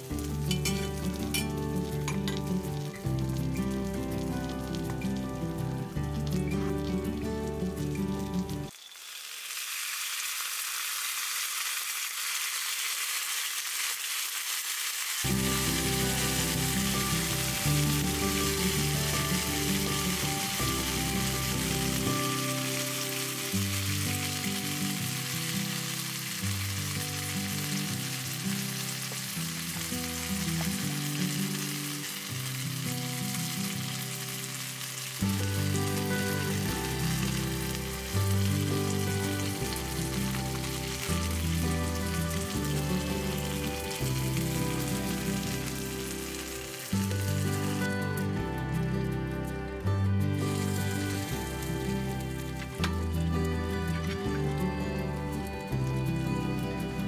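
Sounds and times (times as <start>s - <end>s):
background music: 0.0s - 8.7s, 15.2s - 57.0s
sauce sizzling on a skillet: 0.0s - 57.0s.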